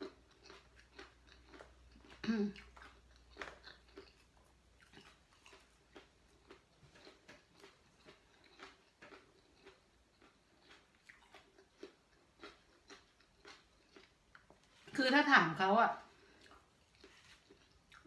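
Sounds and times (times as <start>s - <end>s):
chewing with mouth clicks: 0.0s - 15.0s, 16.0s - 18.0s.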